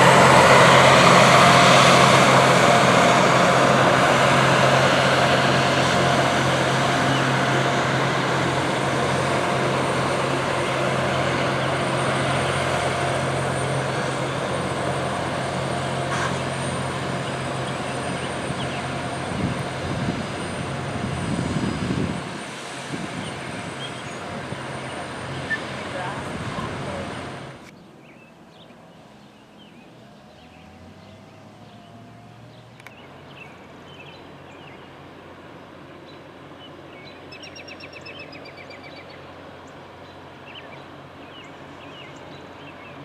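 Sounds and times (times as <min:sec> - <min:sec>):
locomotive engine hum: 0:00.0 - 0:43.0.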